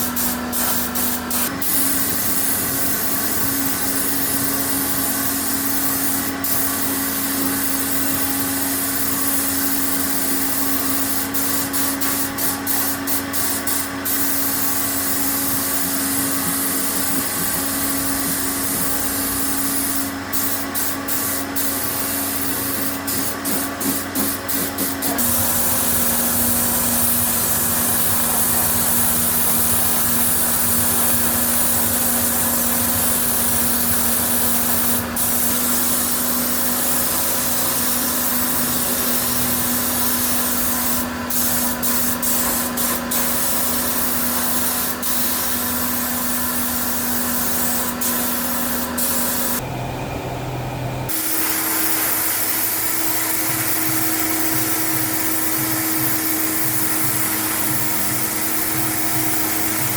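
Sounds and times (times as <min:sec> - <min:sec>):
compressed-air spray gun hissing: 0:00.0 - 0:49.6, 0:51.1 - 0:59.9
steady machine hum: 0:00.0 - 0:59.9.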